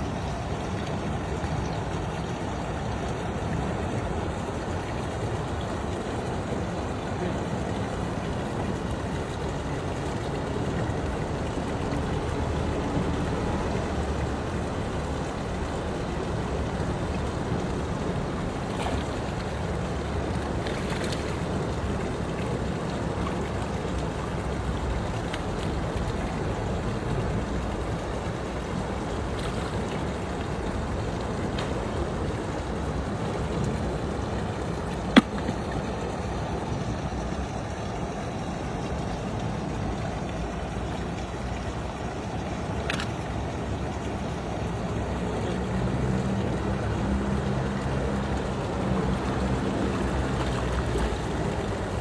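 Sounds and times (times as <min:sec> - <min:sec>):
boat engine rumble: 0:00.0 - 0:52.0
water noise: 0:00.0 - 0:52.0.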